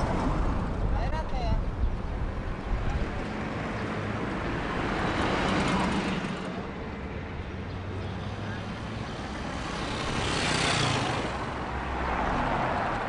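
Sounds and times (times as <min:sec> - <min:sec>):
vehicle passing: 0:02.1 - 0:13.0.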